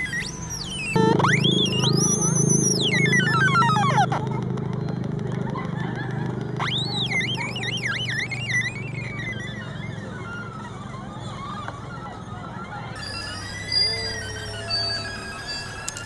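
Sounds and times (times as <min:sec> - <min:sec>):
rising electronic sweep: 0:00.0 - 0:15.9
electronic birdsong chirps: 0:00.0 - 0:16.0.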